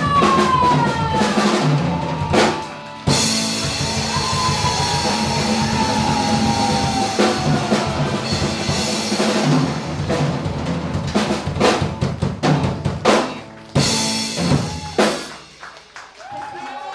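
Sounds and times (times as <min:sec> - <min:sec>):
drum kit fills and hits: 0:00.0 - 0:16.0
live rock band: 0:00.0 - 0:16.0.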